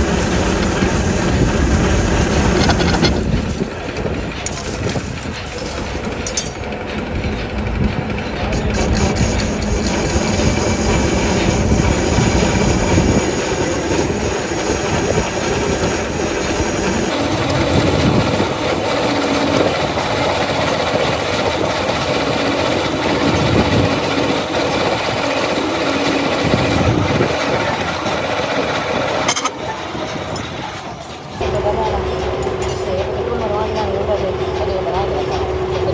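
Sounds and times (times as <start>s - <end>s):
factory machinery noise: 0.0s - 35.9s.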